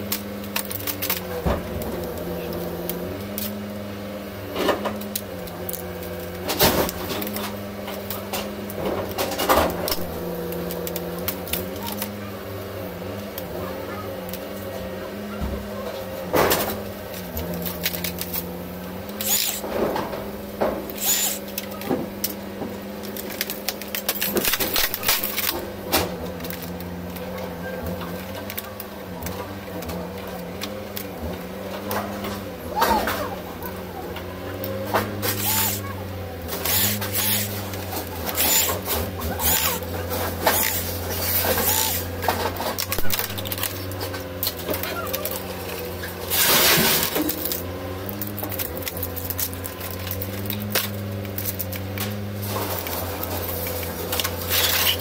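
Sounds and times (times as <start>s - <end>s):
droning hum: 0.0s - 55.0s.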